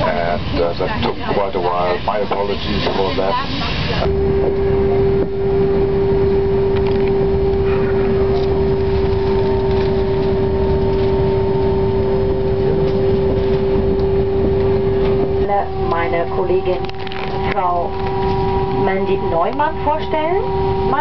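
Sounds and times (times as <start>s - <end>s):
airliner cabin rumble: 0.0s - 21.0s
faint higher tones: 4.0s - 21.0s.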